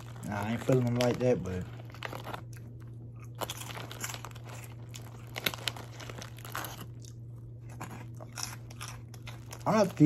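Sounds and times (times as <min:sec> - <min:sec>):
plastic snack bag crinkling: 0:00.0 - 0:10.0.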